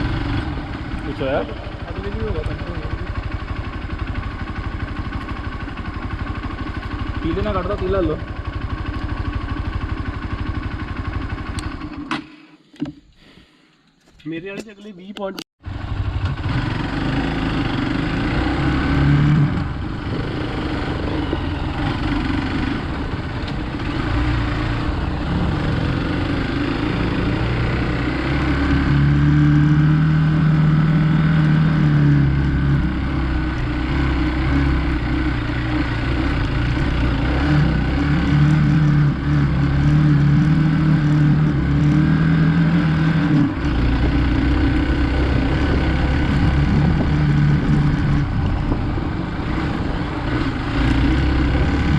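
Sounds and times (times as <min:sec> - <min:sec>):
motorcycle engine under throttle: 0:00.0 - 0:12.4, 0:15.6 - 0:51.9.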